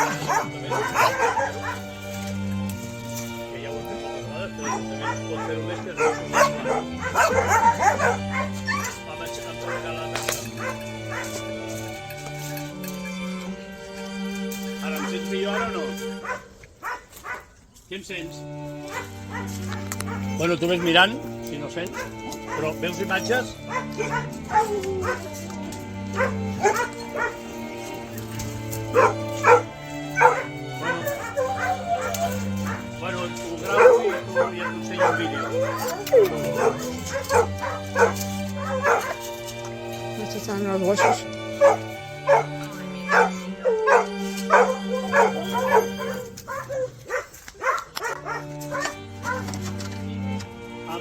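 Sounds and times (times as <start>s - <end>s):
dogs barking and yipping: 0.0s - 13.2s, 14.0s - 17.7s, 18.8s - 49.9s.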